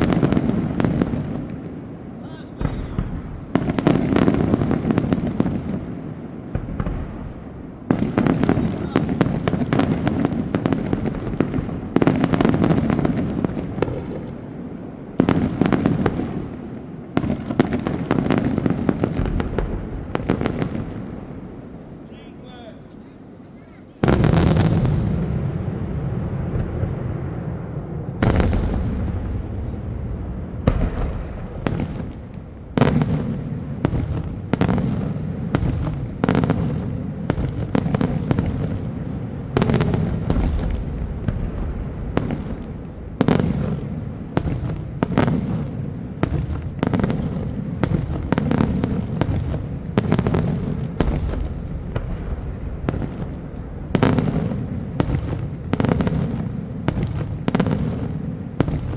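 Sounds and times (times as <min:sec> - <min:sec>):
firework bangs with rumbling echo: 0:00.0 - 0:22.8, 0:24.0 - 0:58.9.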